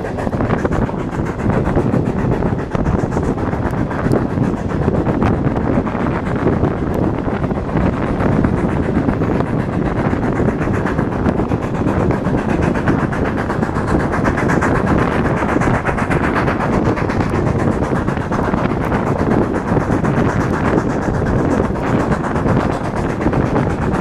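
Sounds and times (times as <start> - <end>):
steam train running: 0.0 - 24.0
wind over microphone: 0.0 - 24.0.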